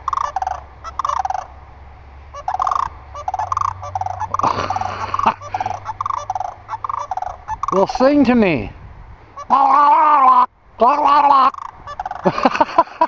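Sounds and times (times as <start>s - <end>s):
cranes bugling: 0.0s - 1.7s, 2.3s - 8.7s, 9.3s - 12.6s.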